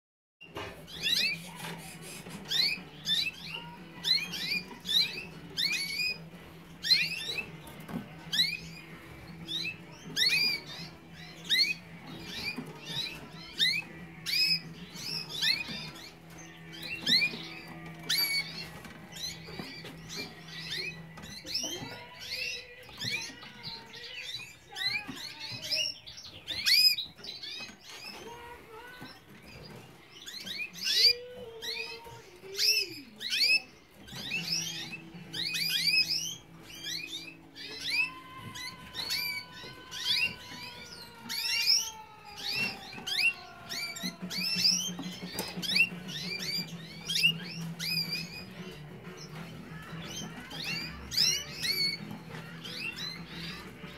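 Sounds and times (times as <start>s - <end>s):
canaries chirping: 0.4s - 53.9s.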